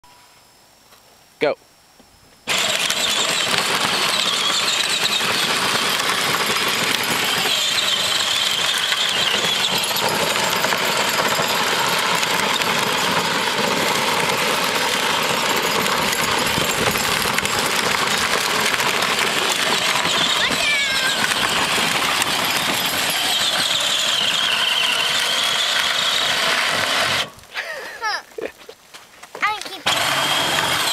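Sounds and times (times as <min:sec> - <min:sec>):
electric motor whine: 0:02.5 - 0:27.5, 0:29.8 - 0:30.9
plastic wheels grinding on gravel: 0:02.5 - 0:30.9.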